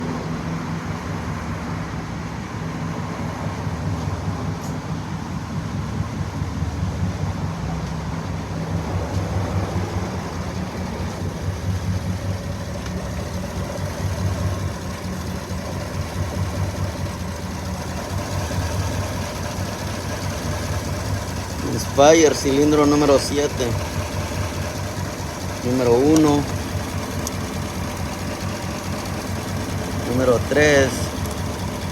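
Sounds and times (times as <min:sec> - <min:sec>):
engine idling unevenly: 0:00.0 - 0:31.9.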